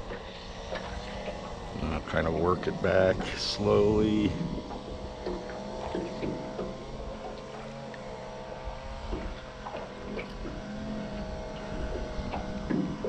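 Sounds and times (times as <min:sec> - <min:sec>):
boat motor hum: 0:00.0 - 0:13.0
water lapping against hull: 0:00.0 - 0:13.0.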